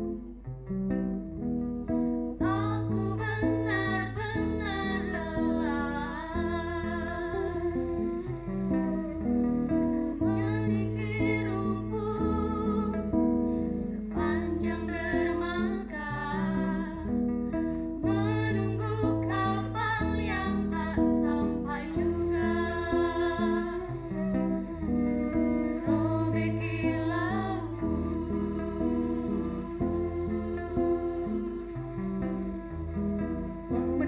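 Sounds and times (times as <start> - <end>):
acoustic guitar: 0.0 - 34.0
voices singing slow melody: 2.5 - 17.1, 18.0 - 34.0.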